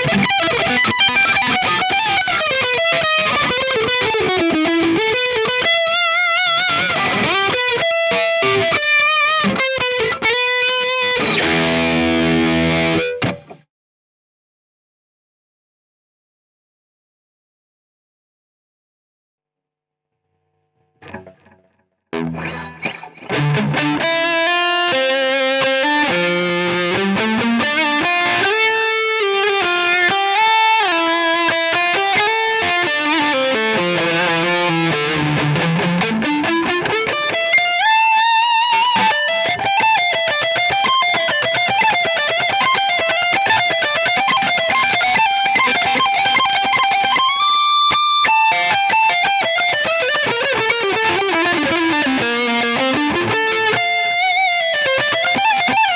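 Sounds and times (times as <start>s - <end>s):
distorted electric guitar lead: 0.0s - 13.7s, 20.2s - 55.9s.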